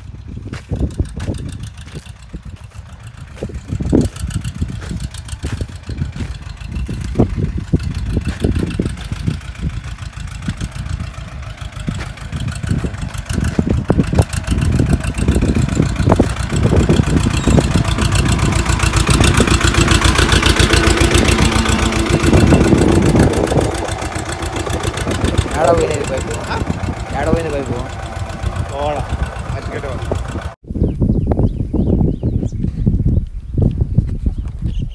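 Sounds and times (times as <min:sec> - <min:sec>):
tractor diesel engine running: 0:00.0 - 0:30.6.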